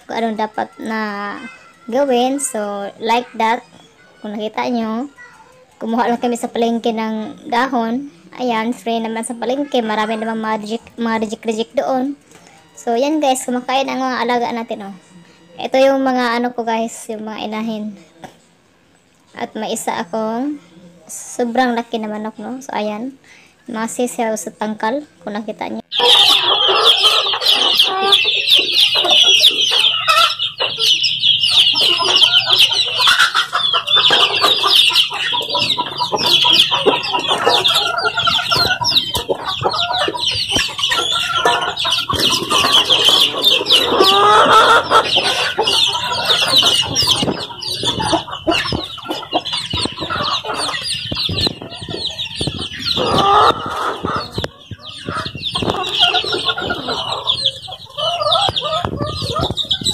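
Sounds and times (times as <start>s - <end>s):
chickens clucking: 0.0s - 59.9s
chicks peeping: 0.0s - 59.9s.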